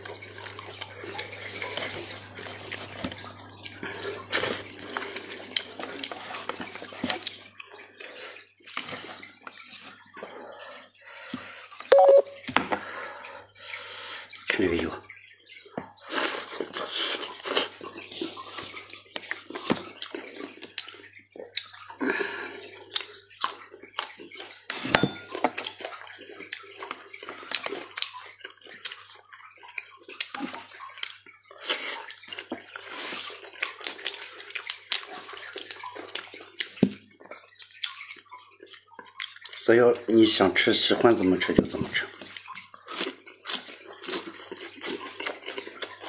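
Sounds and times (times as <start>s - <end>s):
wet chewing and lip-smacking: 0.0s - 10.3s, 16.1s - 39.7s, 42.1s - 46.0s.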